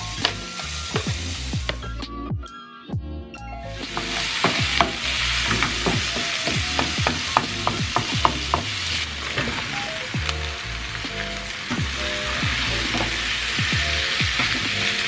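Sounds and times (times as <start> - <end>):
onion sizzling in oil: 0.0 - 2.0, 3.6 - 15.0.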